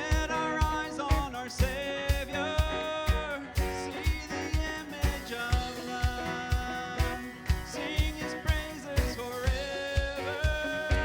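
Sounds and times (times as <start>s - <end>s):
guitar: 0.0s - 11.0s
kick drum beat: 0.0s - 11.0s
worship band playing: 0.0s - 11.0s.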